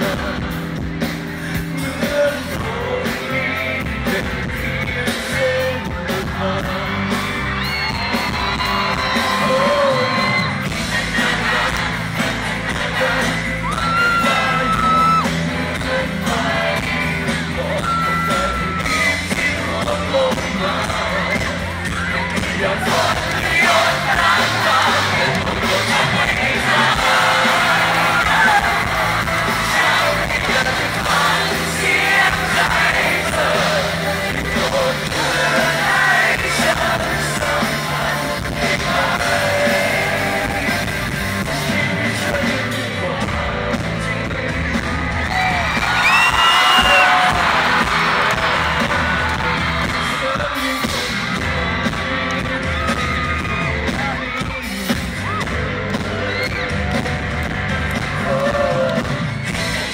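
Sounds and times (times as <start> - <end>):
lead singer singing: 0.0 - 59.9
rock band playing live: 0.0 - 59.9
people shouting and yelling: 5.4 - 15.5, 16.1 - 43.2, 44.9 - 59.9.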